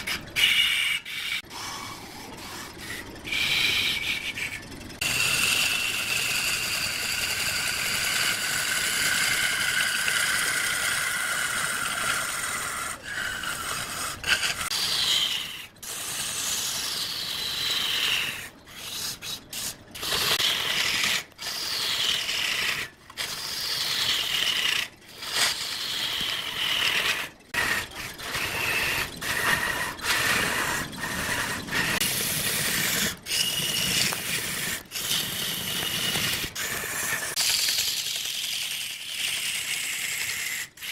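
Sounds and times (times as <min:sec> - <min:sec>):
wood lathe screeching: 0:00.0 - 0:40.9.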